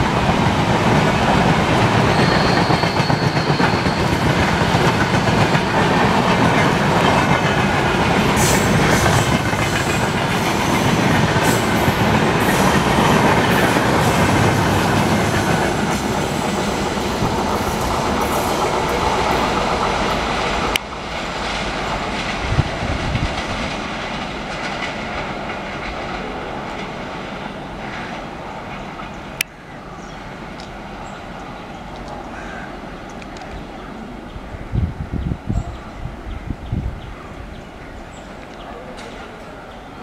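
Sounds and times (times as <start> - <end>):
train wheels rolling on rails: 0.0 - 40.0.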